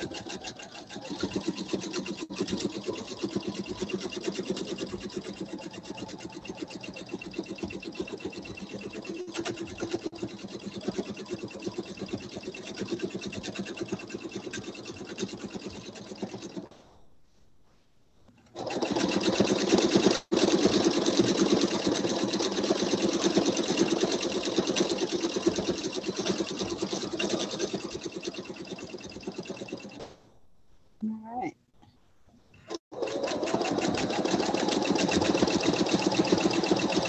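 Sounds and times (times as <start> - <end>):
sewing machine stitching: 0.0 - 16.8, 18.5 - 30.1, 32.7 - 37.0.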